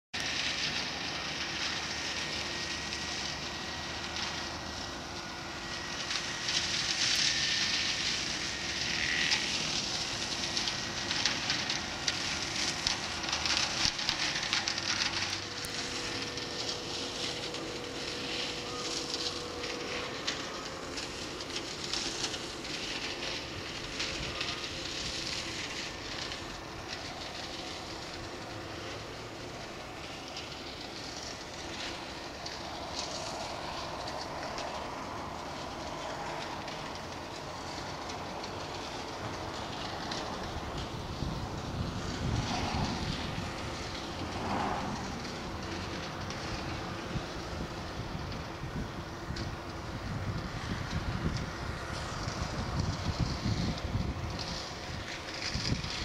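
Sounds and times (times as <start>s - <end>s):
tractor hum: 0.2s - 56.0s.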